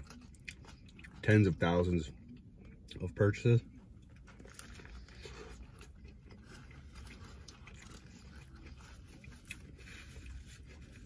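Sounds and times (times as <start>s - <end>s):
person chewing burger: 0.0s - 3.0s, 3.6s - 11.0s
low steady hum: 0.0s - 11.0s.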